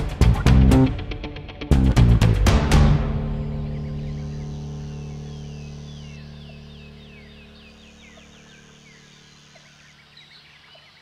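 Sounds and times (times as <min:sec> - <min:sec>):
held music chord: 0:00.0 - 0:10.2.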